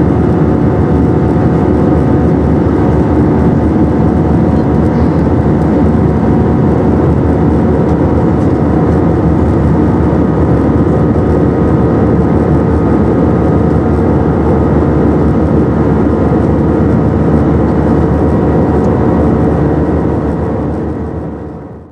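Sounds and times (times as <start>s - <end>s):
jet engine drone: 0.0s - 21.9s
steady humming tones: 0.0s - 21.9s.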